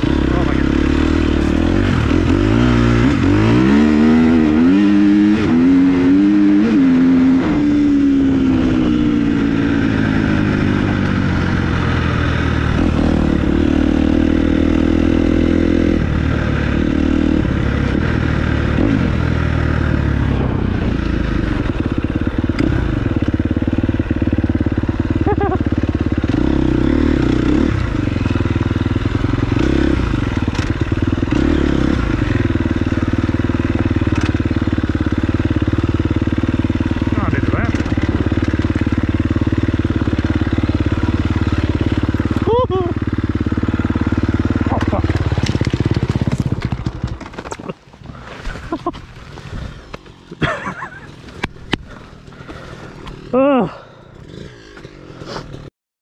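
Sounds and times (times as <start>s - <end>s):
dirt bike engine revving: 0.0s - 55.7s.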